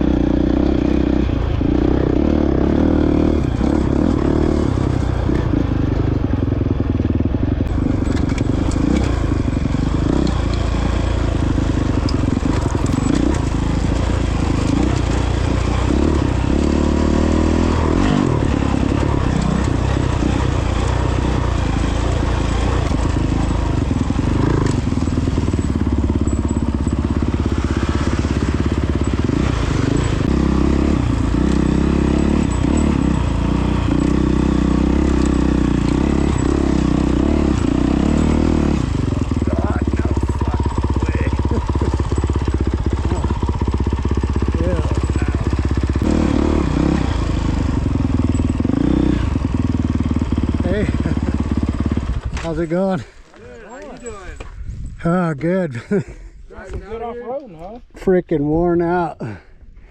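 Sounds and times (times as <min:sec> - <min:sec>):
dirt bike engine revving: 0:00.0 - 0:53.2.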